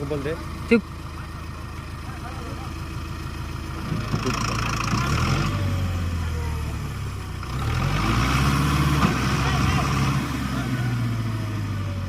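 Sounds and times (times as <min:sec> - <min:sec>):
tractor diesel engine revving: 0:00.0 - 0:12.0.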